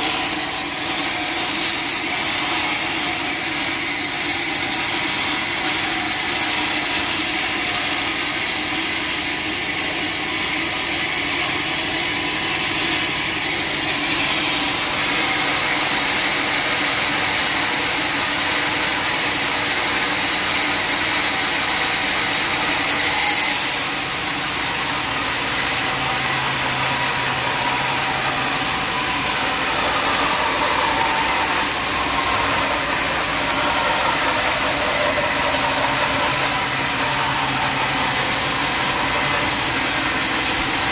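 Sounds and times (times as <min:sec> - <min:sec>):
engine-driven saw running: 0:00.0 - 0:40.9.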